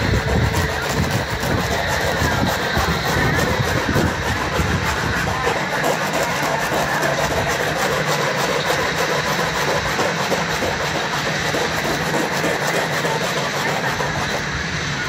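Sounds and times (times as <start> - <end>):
machinery running with fine rattle: 0.0 - 15.0.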